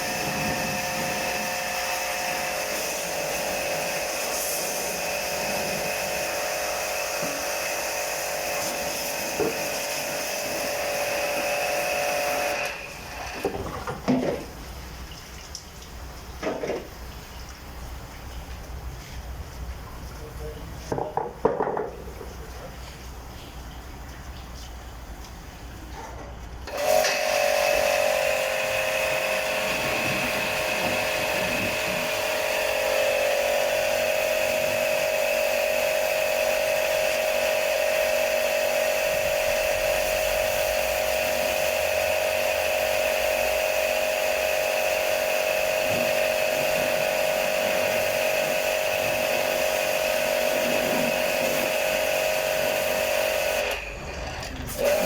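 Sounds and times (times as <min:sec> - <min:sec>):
washing machine motor whine: 0:00.0 - 0:15.1, 0:25.5 - 0:55.0.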